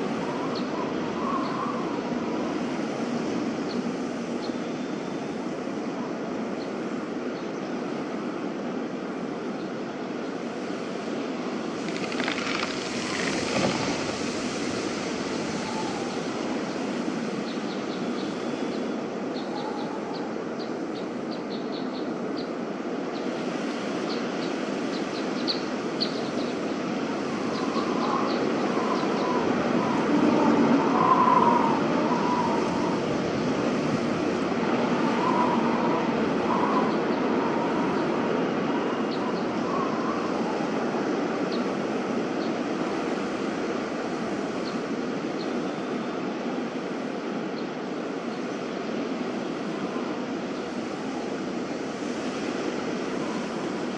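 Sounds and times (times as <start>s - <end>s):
steady outdoor noise wash: 0.0s - 53.9s.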